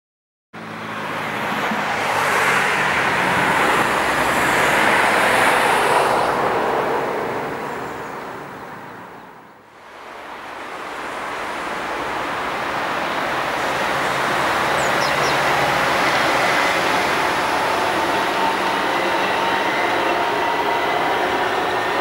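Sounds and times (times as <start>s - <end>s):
road traffic noise: 0.6s - 22.0s.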